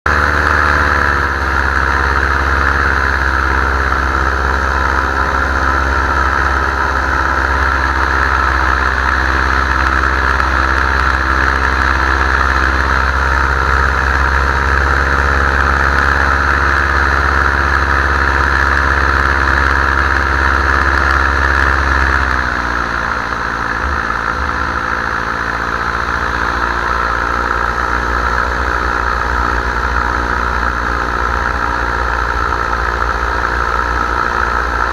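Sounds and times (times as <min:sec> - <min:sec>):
paramotor engine and propeller: 0:00.0 - 0:34.9.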